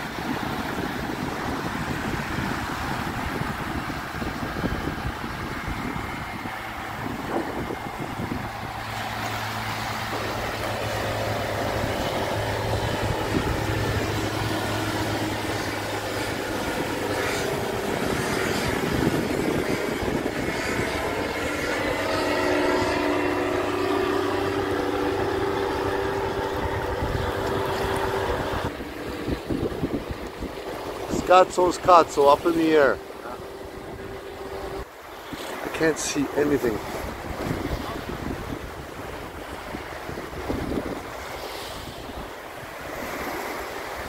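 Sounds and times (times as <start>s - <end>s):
light aircraft engine droning: 0.0s - 44.0s.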